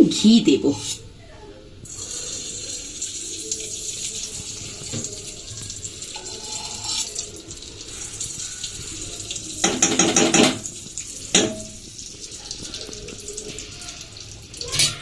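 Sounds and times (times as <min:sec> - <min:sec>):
ghee sizzling in a pan: 0:01.8 - 0:15.0.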